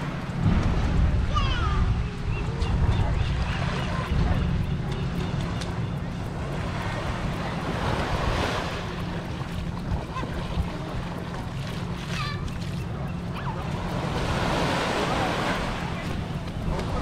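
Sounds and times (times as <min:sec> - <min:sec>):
small waves washing onto sand: 0:00.0 - 0:17.0
wind buffeting microphone: 0:00.0 - 0:17.0.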